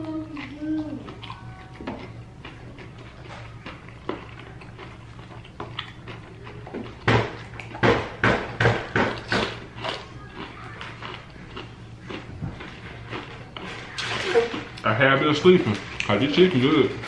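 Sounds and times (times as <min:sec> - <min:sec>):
fried chicken crunching: 0:00.0 - 0:08.0, 0:08.6 - 0:17.0
low steady hum: 0:00.0 - 0:17.0.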